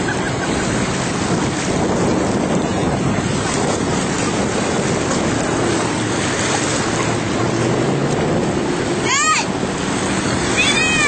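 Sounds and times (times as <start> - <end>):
jet ski engines passing: 0.0 - 11.0
surf rushing: 0.0 - 11.0
wind buffeting microphone: 0.0 - 11.0.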